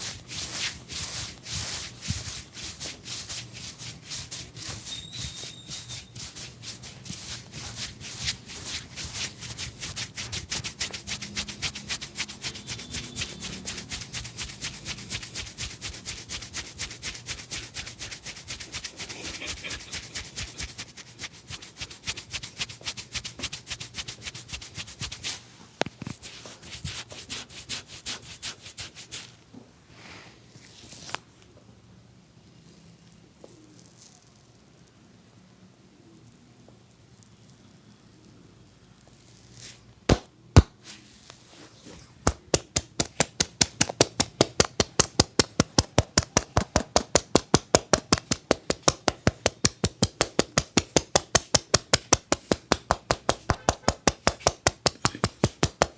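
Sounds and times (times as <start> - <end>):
hands rubbing skin and hair: 0.0 - 29.4, 30.6 - 31.2, 39.0 - 55.9.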